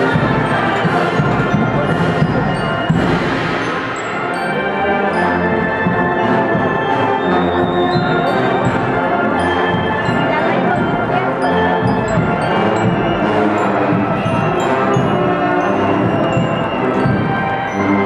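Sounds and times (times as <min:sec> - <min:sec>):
brass and percussion band playing: 0:00.0 - 0:18.0.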